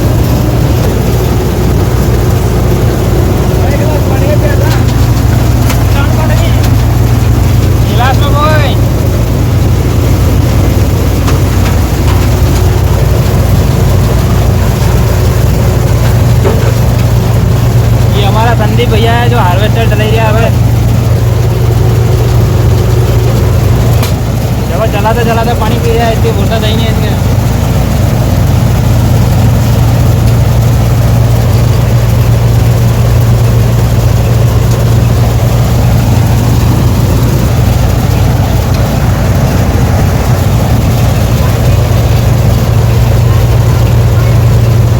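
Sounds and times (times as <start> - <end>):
combine harvester engine drone: 0.0 - 44.9
faint machinery whine: 0.0 - 44.9.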